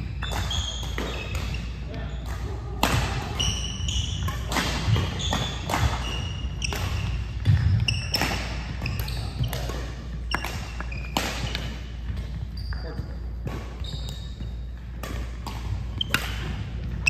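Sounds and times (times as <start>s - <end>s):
rackets hitting shuttlecock: 0.0s - 17.0s
sneakers squeaking on gym floor: 0.0s - 17.0s.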